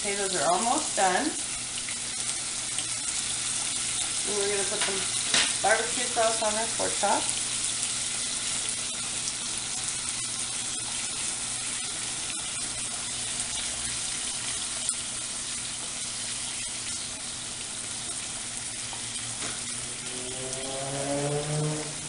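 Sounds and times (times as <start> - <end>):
meat sizzling in a frying pan: 0.0 - 21.8.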